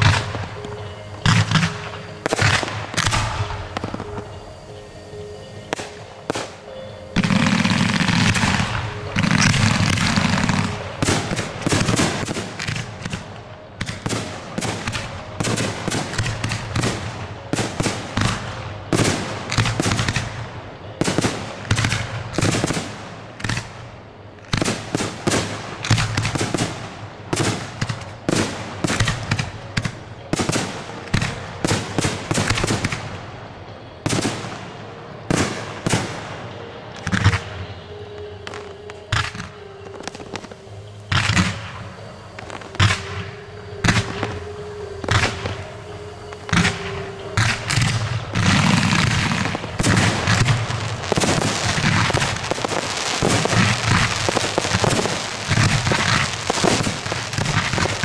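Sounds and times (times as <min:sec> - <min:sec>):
firework bursts and bangs: 0:00.0 - 0:58.0.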